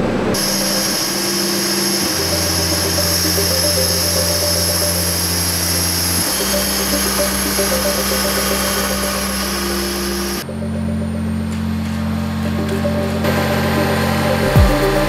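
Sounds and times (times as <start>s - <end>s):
generator engine droning: 0.0s - 15.0s.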